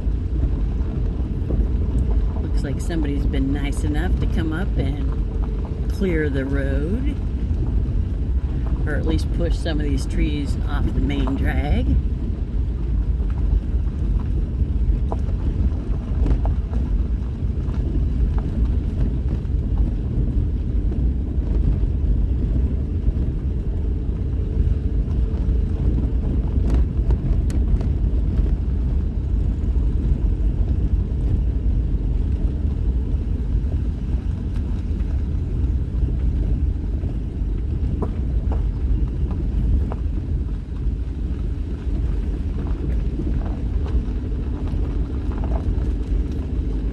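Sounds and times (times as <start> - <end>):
vehicle engine and tyres rumble: 0.0 - 46.9.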